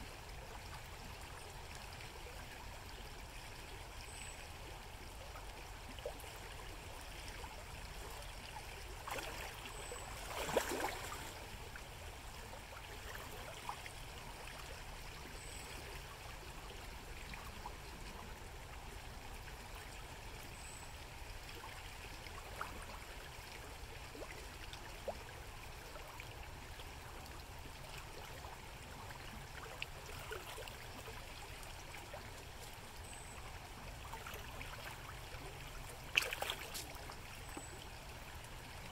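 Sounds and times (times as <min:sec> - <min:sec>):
shallow river over gravel: 0:00.0 - 0:38.9.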